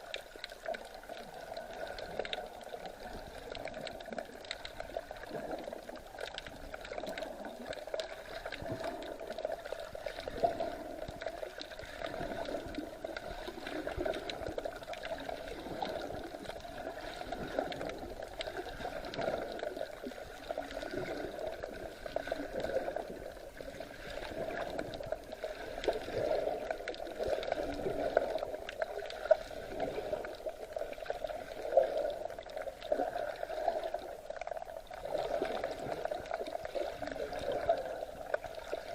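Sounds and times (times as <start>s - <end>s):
sea water sloshing and splashing: 0.0s - 38.9s.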